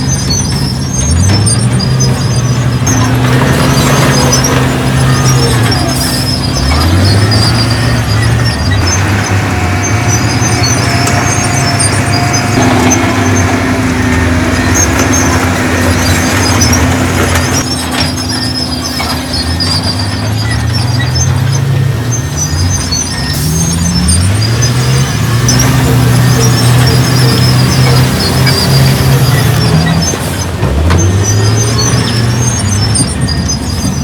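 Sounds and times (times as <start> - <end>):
diesel earthmoving machinery: 0.0 - 34.0
thin high squeal: 0.0 - 34.0.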